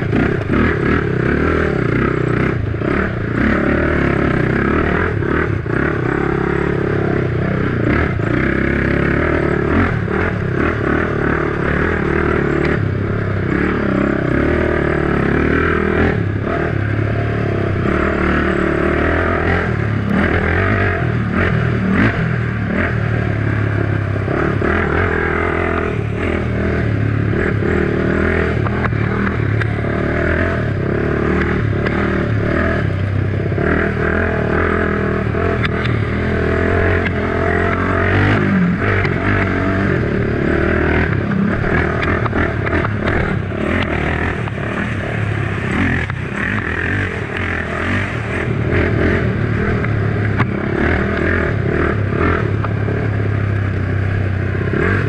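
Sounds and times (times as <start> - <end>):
quad engine running under throttle: 0.0 - 55.0.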